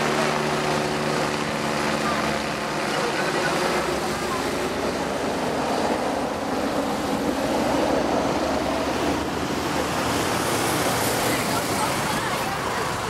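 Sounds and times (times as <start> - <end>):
helicopter rotors and engines: 0.0 - 13.0.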